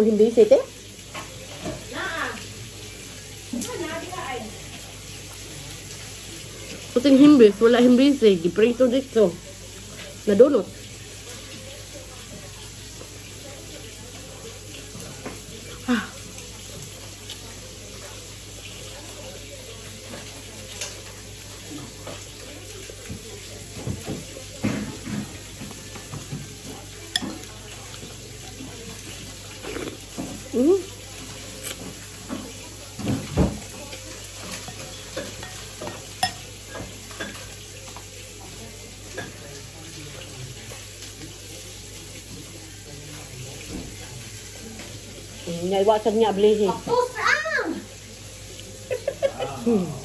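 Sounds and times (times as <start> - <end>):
running water hissing: 0.0 - 50.0.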